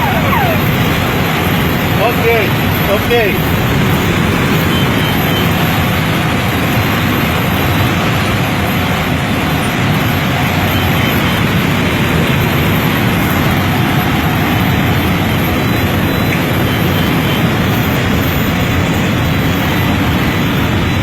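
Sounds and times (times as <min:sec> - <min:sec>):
small airplane cabin noise: 0:00.0 - 0:21.0.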